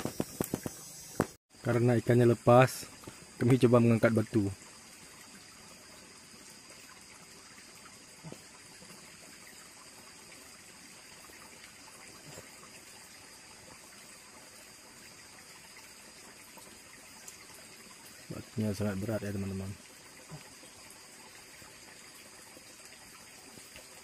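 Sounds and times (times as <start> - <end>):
stream trickling over rocks: 0.0 - 24.0.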